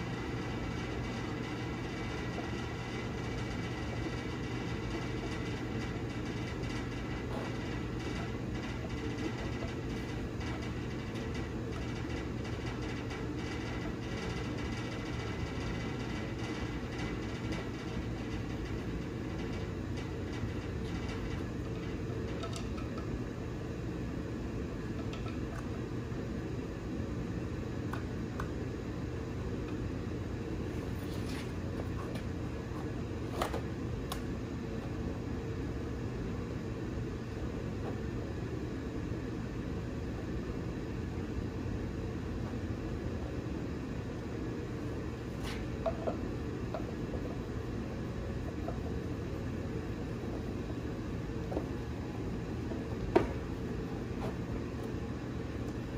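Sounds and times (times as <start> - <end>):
heater rumbling: 0.0 - 55.9.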